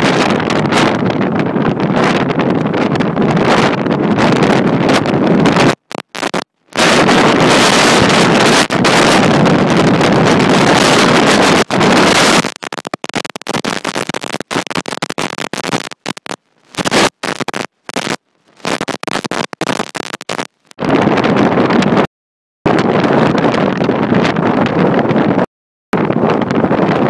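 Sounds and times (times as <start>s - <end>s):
strong wind blasting microphone: 0.0s - 22.1s, 22.7s - 27.0s.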